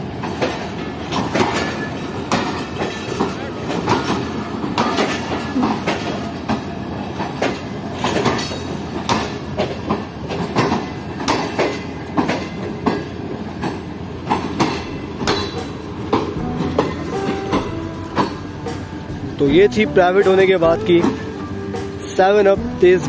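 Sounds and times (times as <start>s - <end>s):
train wheels clacking over rail joints: 0.0s - 23.0s.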